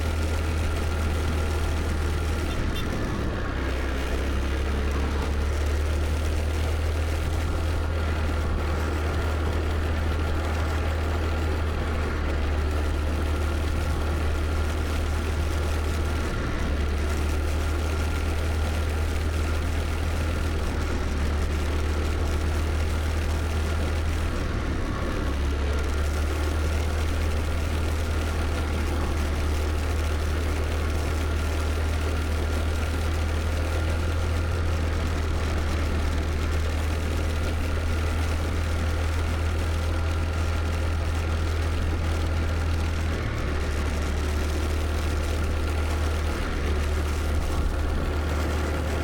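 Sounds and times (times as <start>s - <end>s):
scooter engine running: 0.0s - 49.0s.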